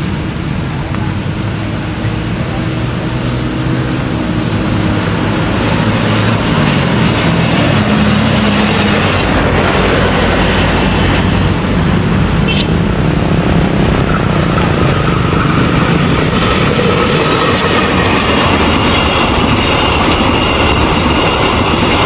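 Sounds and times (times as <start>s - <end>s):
broad rumbling noise: 0.0s - 22.0s
locomotive engine drone: 0.0s - 22.0s.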